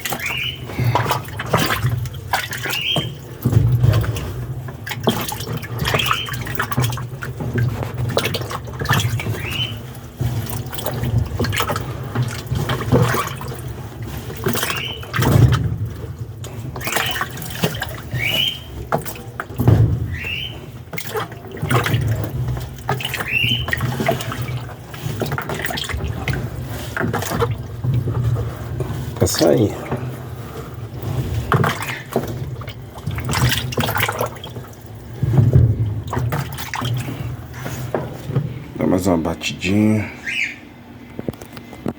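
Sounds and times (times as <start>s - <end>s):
washing machine churning: 0.0s - 41.9s
washing machine motor humming: 0.0s - 41.9s.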